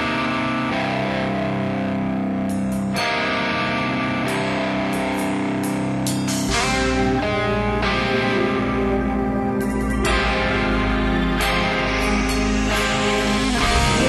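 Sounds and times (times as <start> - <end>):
distorted electric guitar chords: 0.0 - 14.0.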